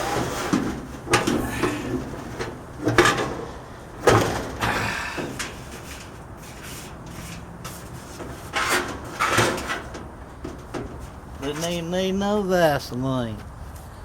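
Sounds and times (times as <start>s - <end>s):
dryer drum rubbing: 0.0s - 12.0s
metal knocks and scrapes: 0.0s - 12.0s.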